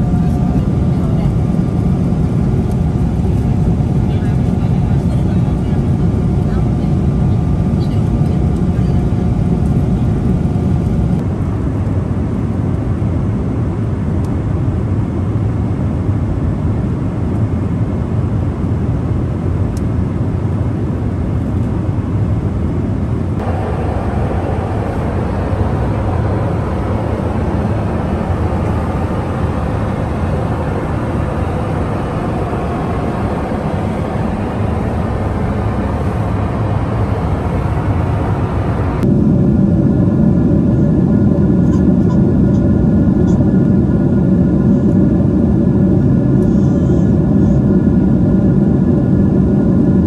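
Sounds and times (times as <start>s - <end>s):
jet aircraft rush: 0.0s - 50.0s.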